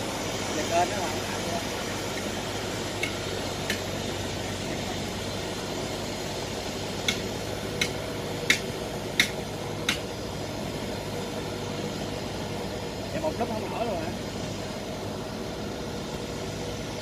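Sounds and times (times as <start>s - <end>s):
tractor engine humming: 0.0s - 17.0s.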